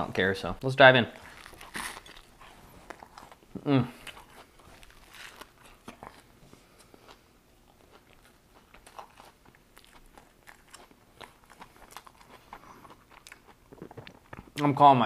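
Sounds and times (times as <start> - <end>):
man chewing crunchy food: 1.1 - 14.6.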